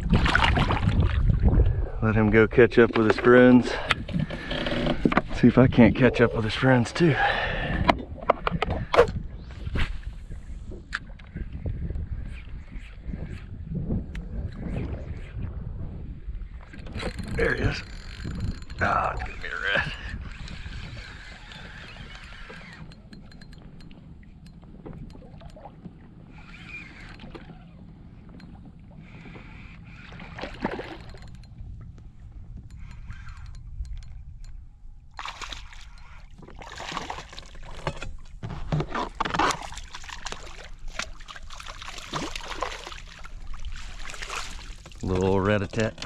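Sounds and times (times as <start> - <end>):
water sloshing around hull: 0.0 - 46.0.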